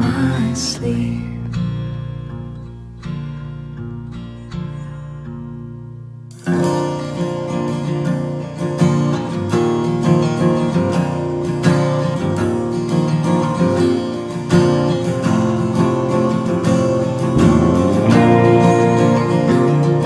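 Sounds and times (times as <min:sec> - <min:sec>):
acoustic guitar strumming and picking: 0:00.0 - 0:20.0.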